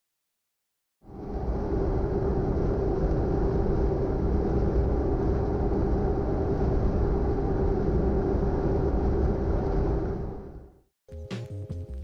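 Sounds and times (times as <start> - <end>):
low mechanical rumble: 1.0 - 10.8.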